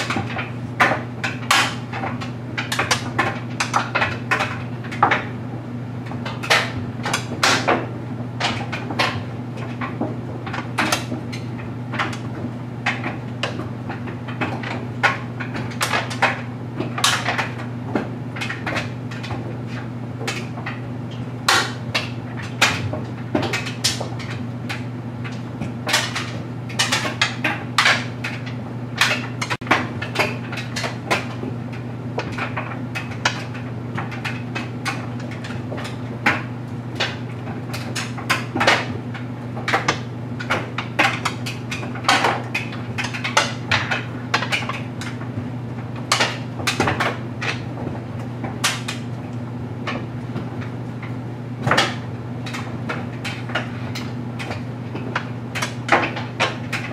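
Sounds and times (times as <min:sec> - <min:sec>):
clacks and knocks in dryer drum: 0:00.0 - 0:56.9
clothes dryer motor hum: 0:00.0 - 0:56.9.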